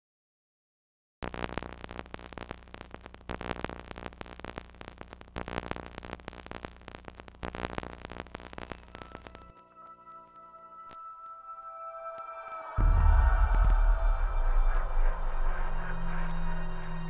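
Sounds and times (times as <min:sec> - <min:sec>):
tape static crackling: 0:01.2 - 0:17.0.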